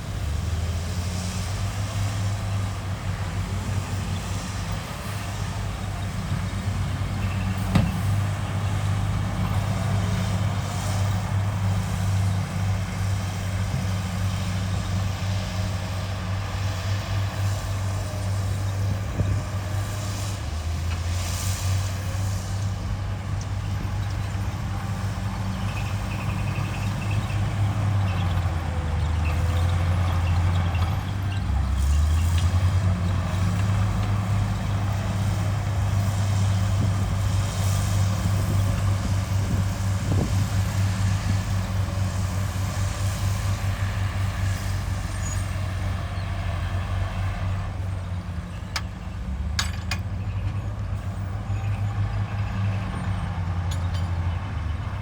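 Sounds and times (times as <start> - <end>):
heavy diesel machinery drone: 0.0 - 55.0.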